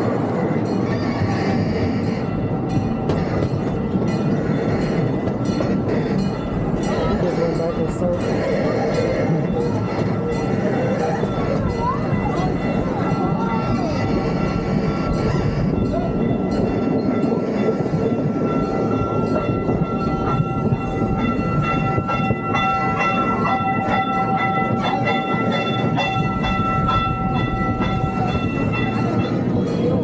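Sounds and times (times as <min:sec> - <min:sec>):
train running rumble: 0:00.0 - 0:30.0.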